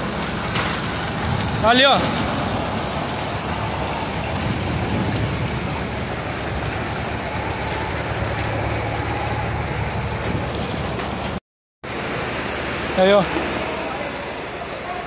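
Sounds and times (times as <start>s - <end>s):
floodwater flowing: 0.0s - 15.0s
heavy rain: 0.0s - 15.0s.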